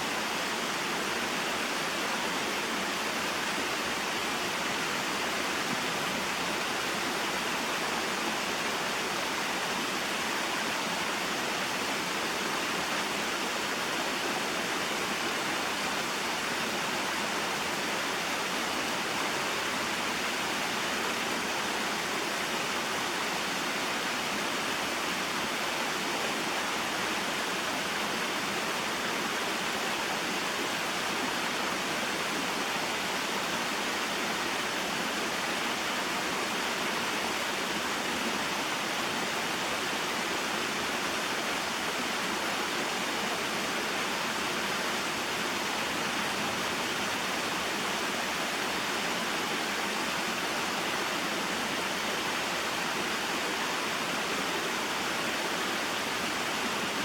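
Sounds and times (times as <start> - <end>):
waterfall and stream flowing: 0.0 - 57.0.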